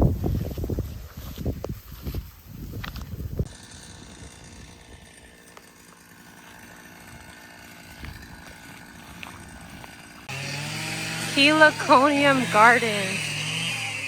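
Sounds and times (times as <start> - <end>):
outdoor background drone: 2.2 - 14.0.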